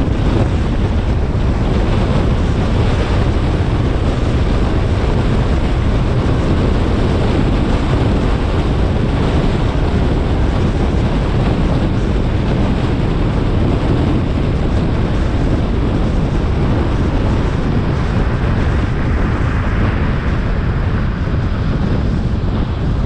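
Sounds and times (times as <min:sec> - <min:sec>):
car wind and road noise: 0:00.0 - 0:23.0
wind buffeting on microphone: 0:00.0 - 0:23.0.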